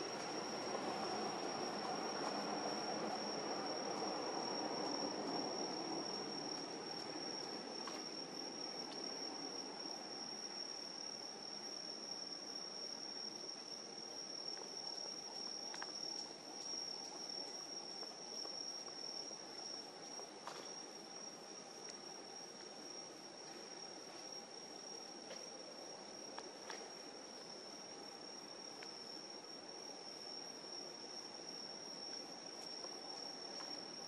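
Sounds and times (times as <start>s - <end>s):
night insects trilling: 0.0s - 34.0s.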